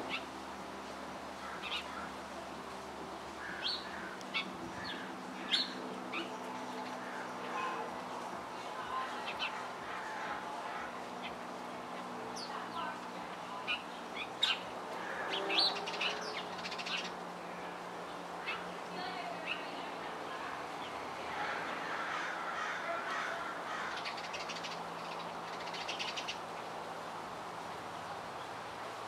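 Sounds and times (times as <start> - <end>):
birds chirping: 1.4 - 2.5, 3.3 - 26.7.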